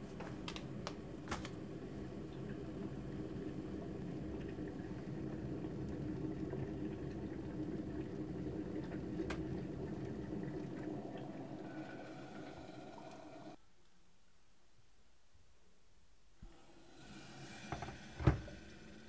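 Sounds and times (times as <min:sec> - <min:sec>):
water boiling in a kettle: 0:00.4 - 0:13.6, 0:16.4 - 0:19.0.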